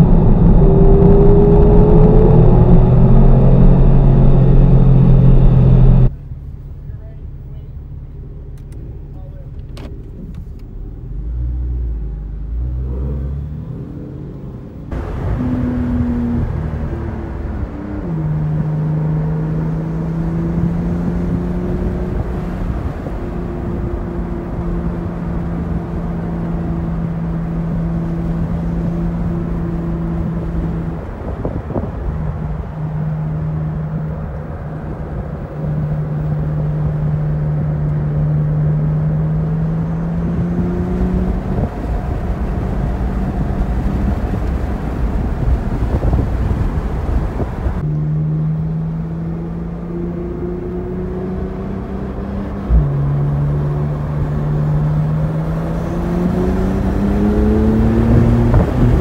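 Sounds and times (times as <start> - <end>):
car engine running: 0.0 - 59.0
road and tyre noise: 0.0 - 59.0.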